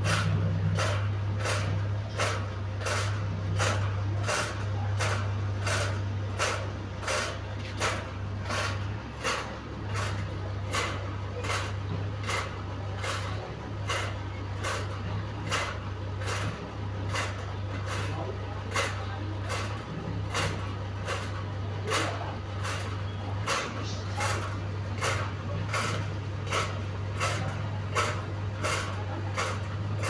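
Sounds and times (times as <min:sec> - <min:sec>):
fan rhythmic noise: 0:00.0 - 0:30.0
steady low hum: 0:00.0 - 0:30.0.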